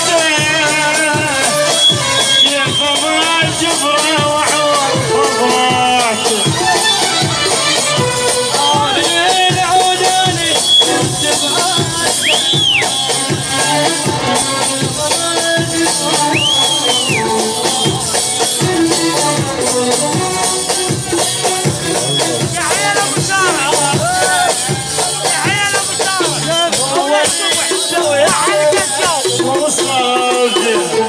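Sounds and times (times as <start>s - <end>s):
instrumental music with steady beat: 0.0s - 31.0s.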